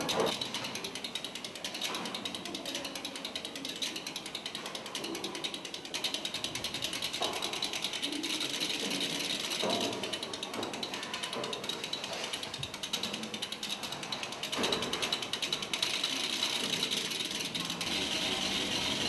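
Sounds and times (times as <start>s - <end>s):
rapid mechanical clicking: 0.0s - 19.0s.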